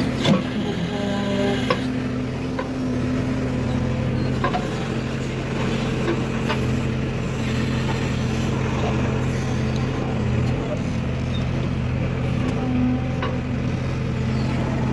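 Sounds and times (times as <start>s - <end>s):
vehicle engine running: 0.0s - 14.9s.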